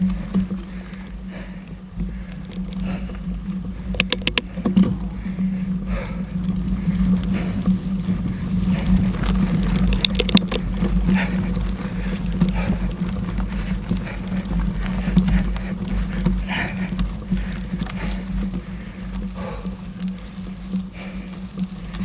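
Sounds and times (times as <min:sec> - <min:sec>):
bike clicks and rattles: 0:00.0 - 0:22.0
bike tyres rumbling on dirt: 0:00.0 - 0:22.0
wind on microphone: 0:00.0 - 0:22.0.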